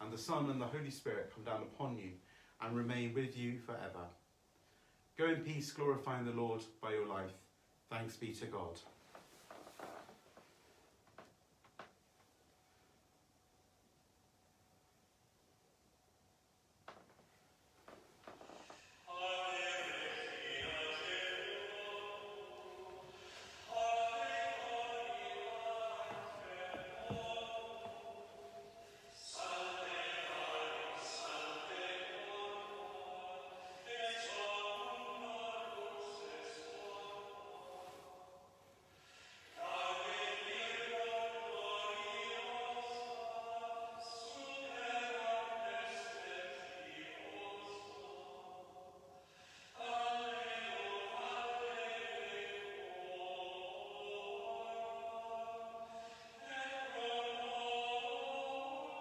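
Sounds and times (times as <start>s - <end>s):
slow sung chant: 0.0s - 13.5s, 16.8s - 59.0s.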